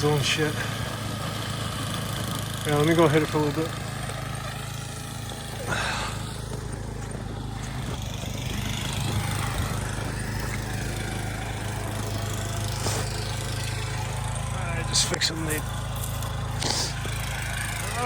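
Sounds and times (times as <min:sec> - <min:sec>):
snow blower engine running: 0:00.0 - 0:18.0.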